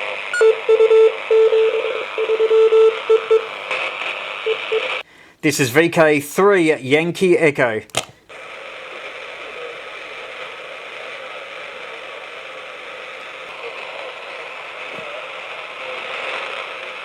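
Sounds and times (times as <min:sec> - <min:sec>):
radio static hiss: 0:00.0 - 0:05.1, 0:08.3 - 0:17.0.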